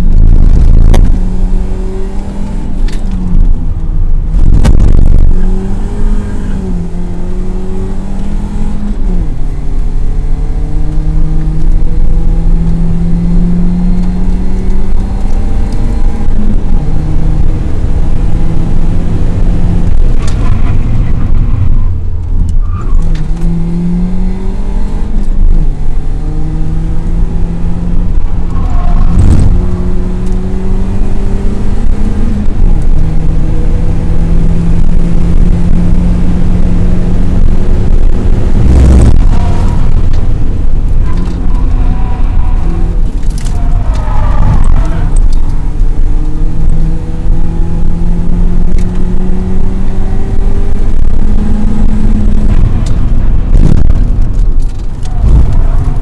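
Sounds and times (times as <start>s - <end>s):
race car engine pulling hard: 0.0s - 56.0s
road and wind noise: 0.0s - 56.0s.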